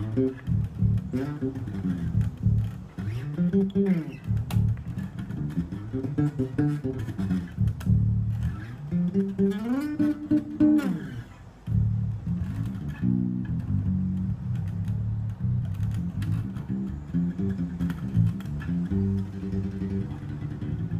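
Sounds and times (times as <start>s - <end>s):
electric bass plucked notes: 0.0s - 20.9s.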